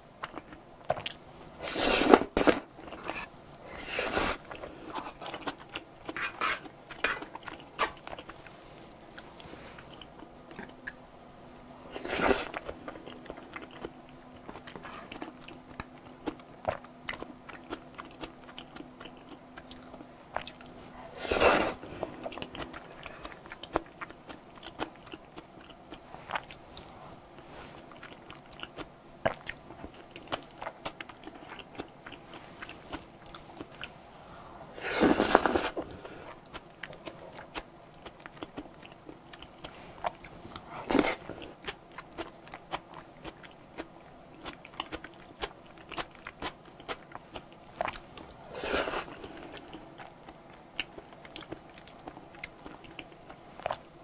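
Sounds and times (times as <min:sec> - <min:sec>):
chewing creamy pasta: 0:00.2 - 0:11.0, 0:11.9 - 0:34.0, 0:34.7 - 0:54.0.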